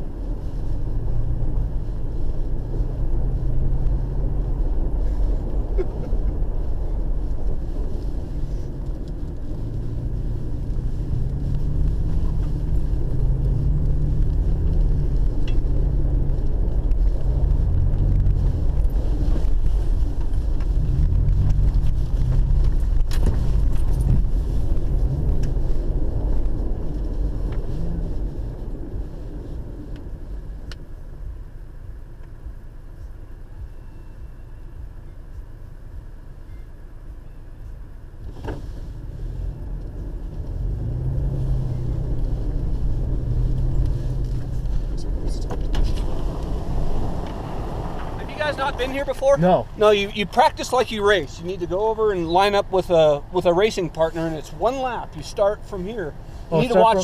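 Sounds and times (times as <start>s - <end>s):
car engine rumble: 0.0s - 57.0s.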